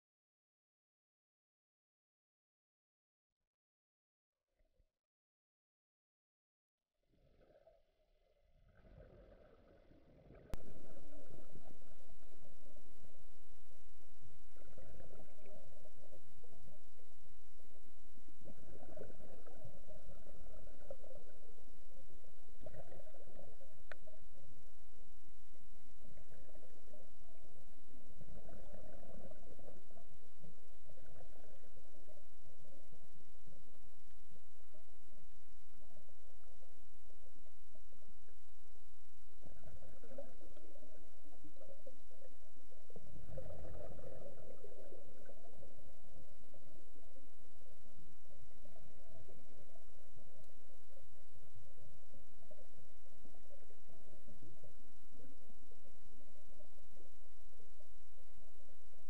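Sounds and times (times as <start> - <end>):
faint hum: 6.9 - 59.0
exhaled bubbles gurgling underwater: 8.5 - 59.0.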